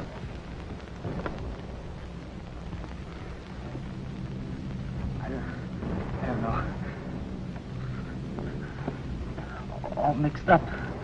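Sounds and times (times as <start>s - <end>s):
faint crackle: 0.0s - 11.0s
film soundtrack hiss: 0.0s - 11.0s
low hum: 0.0s - 11.0s.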